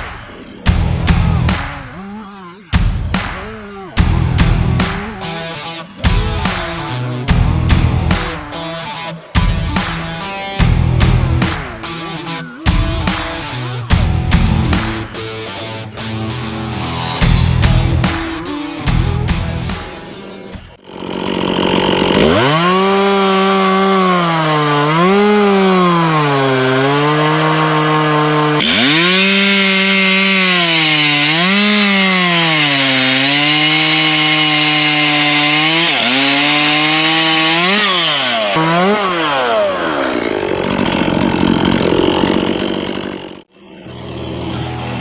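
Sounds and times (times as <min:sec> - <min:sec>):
chainsaw cutting logs: 0:00.0 - 0:45.0.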